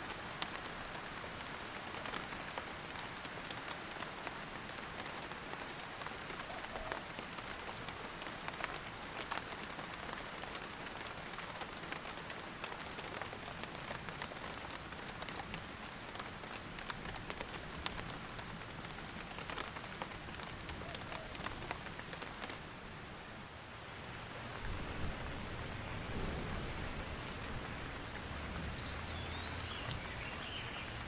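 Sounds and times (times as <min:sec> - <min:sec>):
raindrops ticking and splatting: 0:00.0 - 0:31.0
steady rain hiss: 0:00.0 - 0:31.0.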